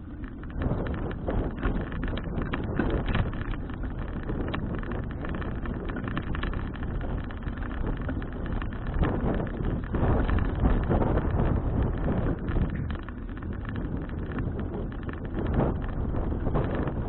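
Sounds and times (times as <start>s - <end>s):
wind buffeting microphone: 0.0s - 17.0s
small clicks and knocks: 0.1s - 17.0s.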